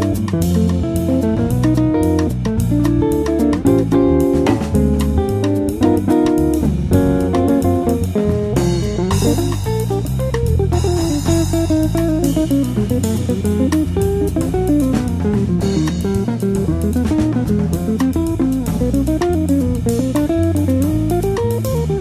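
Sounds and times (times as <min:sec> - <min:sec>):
bass guitar: 0:00.0 - 0:22.0
plucked guitar melody: 0:00.0 - 0:22.0.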